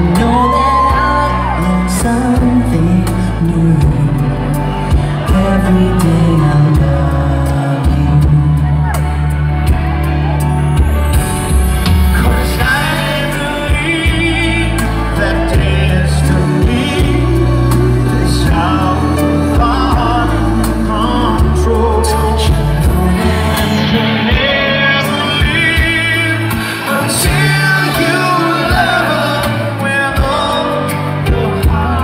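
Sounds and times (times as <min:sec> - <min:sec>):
male vocal group singing a ballad: 0:00.0 - 0:09.1, 0:12.1 - 0:32.0
backing music through a pa: 0:00.0 - 0:32.0.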